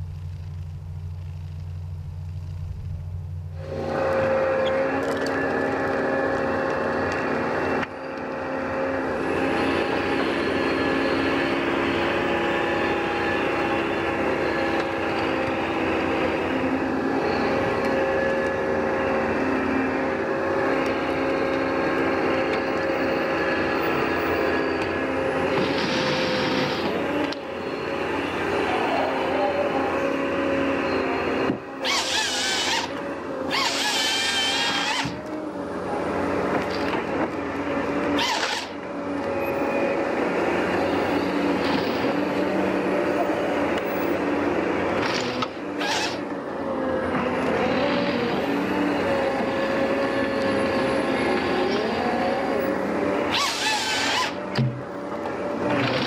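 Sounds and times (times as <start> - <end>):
harvester engine drone: 0.0 - 56.0
hydraulic whine: 0.0 - 56.0.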